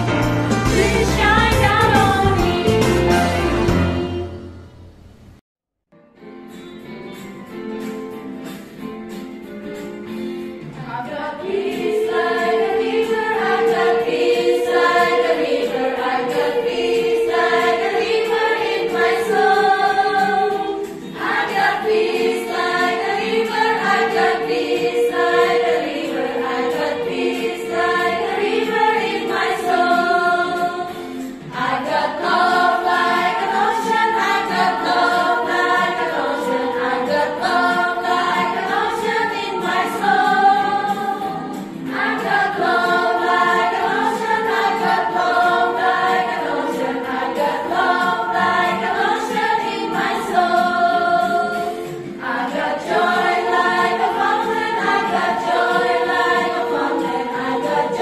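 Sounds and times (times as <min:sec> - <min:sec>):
children's song: 0:00.0 - 0:04.6, 0:10.7 - 0:58.0.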